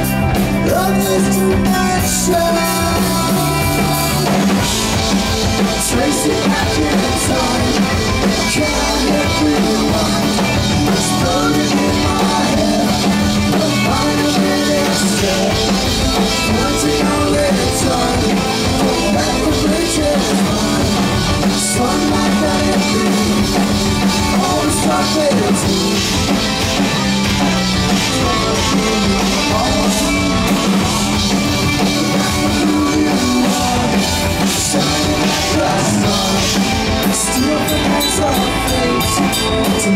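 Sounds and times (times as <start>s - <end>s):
bass: 0.0s - 39.9s
drum kit: 0.0s - 39.9s
electric guitar: 0.0s - 39.9s
keyboards: 0.0s - 39.9s.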